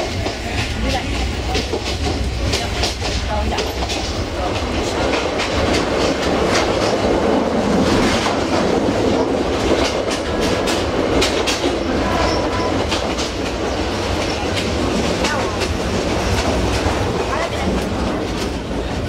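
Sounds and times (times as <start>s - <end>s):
train wheels rumbling and clacking: 0.0s - 19.0s.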